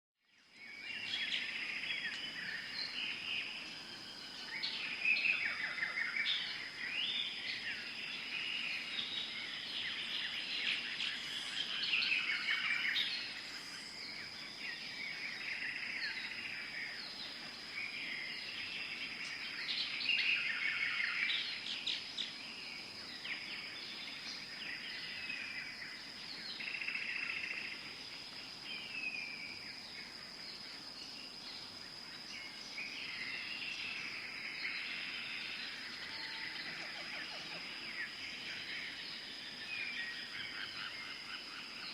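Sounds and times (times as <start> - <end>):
birds calling and chirping: 0.4 - 41.9.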